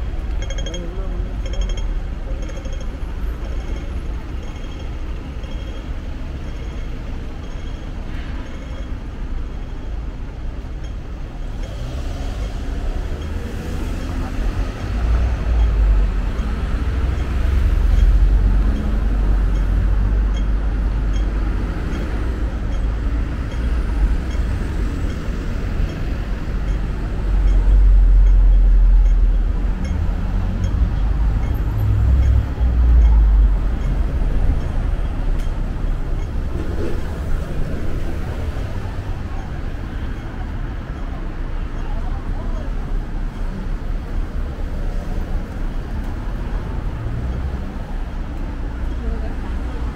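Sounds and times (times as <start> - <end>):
cars and buses passing: 0.0 - 49.9.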